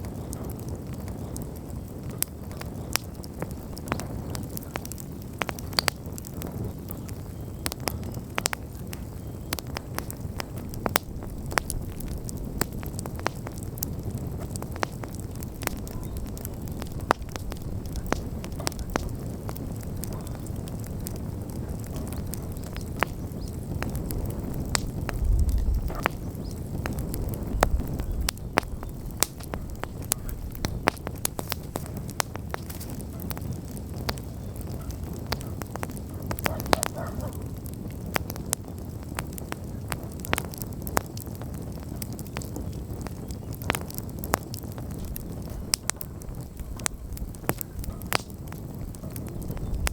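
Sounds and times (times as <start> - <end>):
crackles and pops of burning wood: 0.0 - 49.9
low rush of flame: 0.0 - 49.9.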